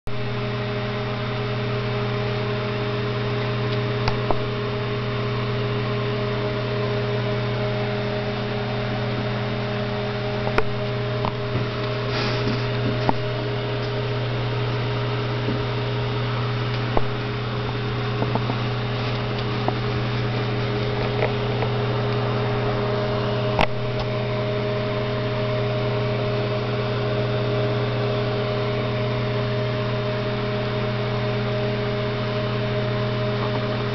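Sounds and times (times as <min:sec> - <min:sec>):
steady low hum: 0:00.1 - 0:33.9.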